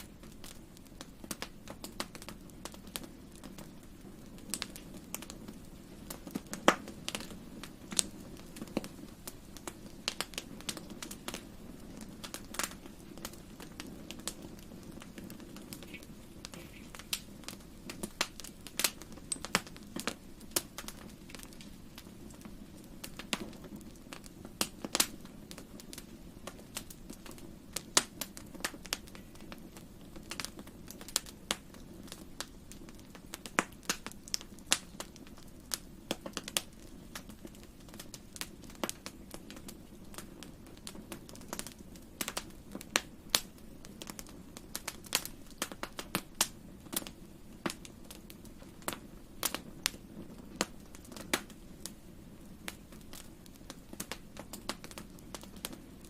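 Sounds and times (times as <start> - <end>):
low rumble of burning logs: 0.0 - 56.0
wood fire crackling: 0.0 - 56.0.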